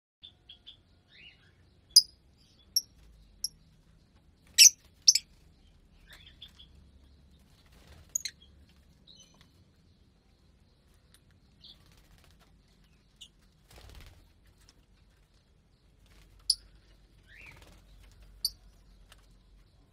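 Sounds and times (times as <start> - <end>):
birds chirping: 0.2 - 19.9.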